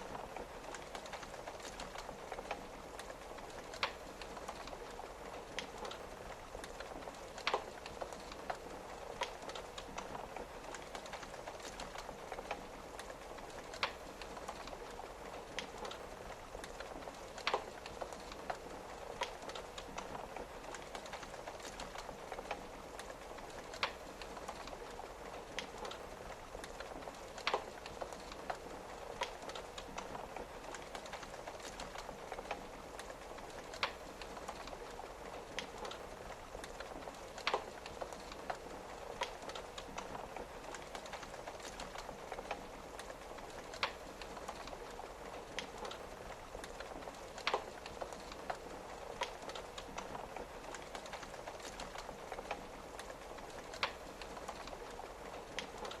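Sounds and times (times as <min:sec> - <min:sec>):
rain tapping on window: 0:00.0 - 0:56.0
wood fire crackling: 0:00.0 - 0:56.0.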